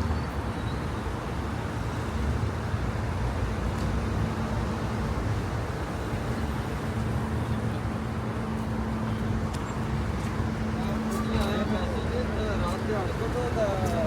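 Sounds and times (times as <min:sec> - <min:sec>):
engine and traffic rumble: 0:00.0 - 0:14.0.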